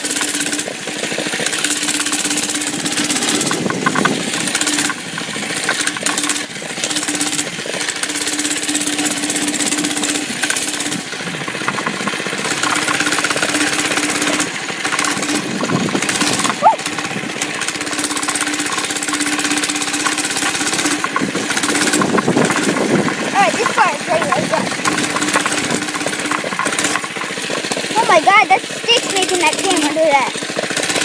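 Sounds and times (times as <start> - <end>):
mini bike engine revving: 0.0 - 31.0.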